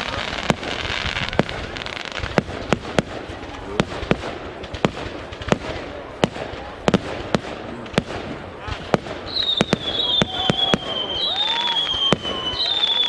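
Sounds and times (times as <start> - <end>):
aerial fireworks bursting: 0.0 - 13.0.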